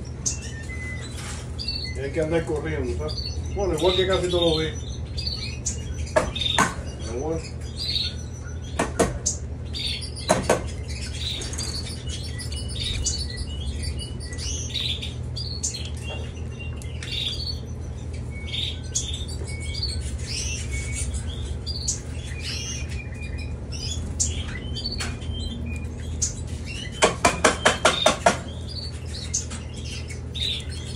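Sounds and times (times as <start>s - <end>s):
canaries chirping: 0.0s - 30.9s
steady low hum: 0.0s - 30.9s.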